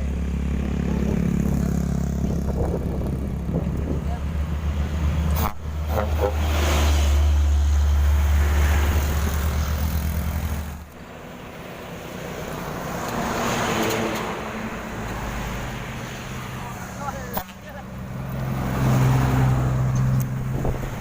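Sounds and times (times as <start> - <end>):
truck engine droning: 0.0 - 21.0
vehicle passing with road noise: 0.0 - 21.0.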